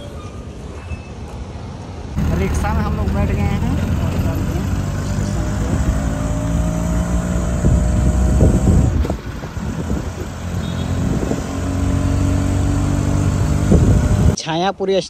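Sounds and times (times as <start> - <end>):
road noise: 0.0 - 15.0
auto-rickshaw engine running: 2.2 - 14.4.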